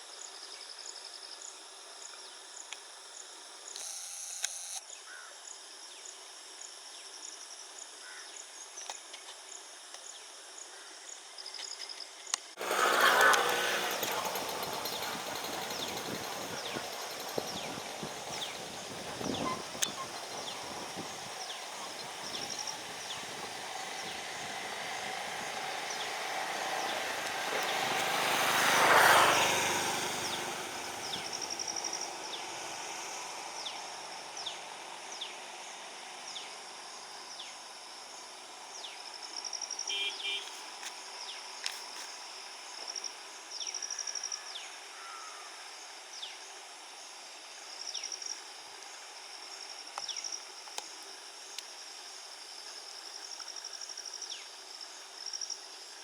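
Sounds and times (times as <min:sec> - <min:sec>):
insects buzzing in trills: 0:00.0 - 0:56.0.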